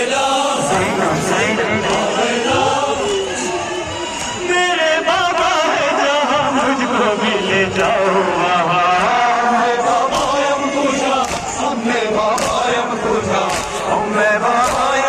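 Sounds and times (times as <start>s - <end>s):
man singing lament into microphone: 0.0s - 15.0s.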